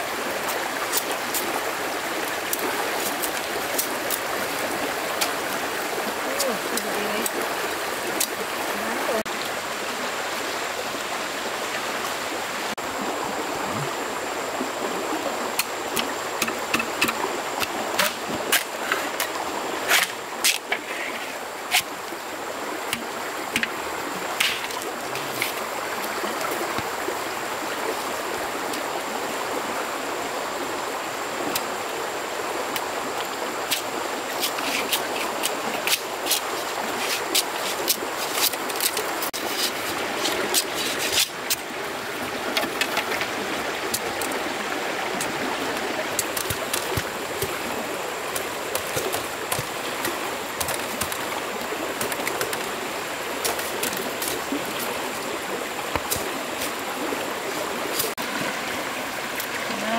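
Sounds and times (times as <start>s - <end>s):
water rushing in a stream: 0.0s - 59.9s.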